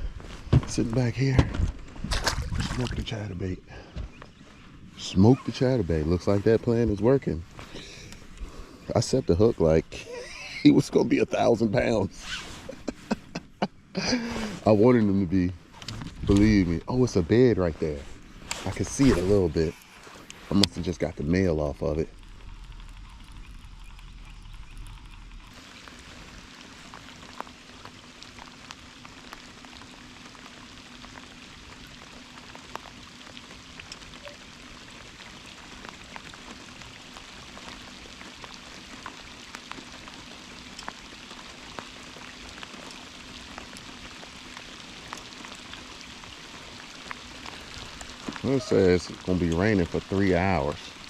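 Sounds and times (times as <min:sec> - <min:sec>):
faint steady hum: 0:00.0 - 0:51.0
rain pattering: 0:00.0 - 0:51.0.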